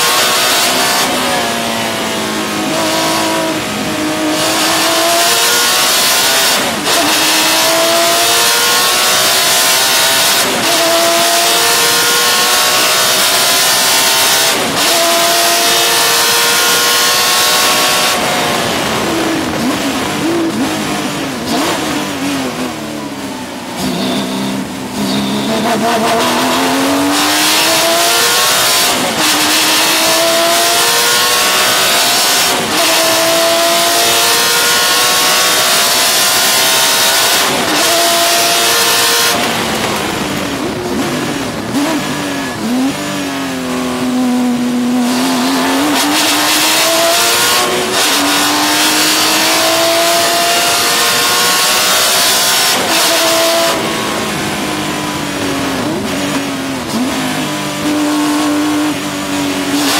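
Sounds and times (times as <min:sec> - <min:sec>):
race car engine at full throttle: 0:00.0 - 0:59.9.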